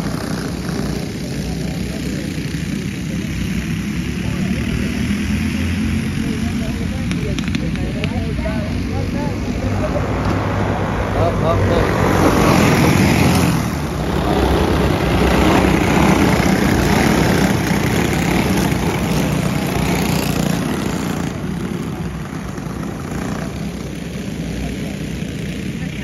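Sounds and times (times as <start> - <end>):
racing kart engines: 0.0 - 26.0.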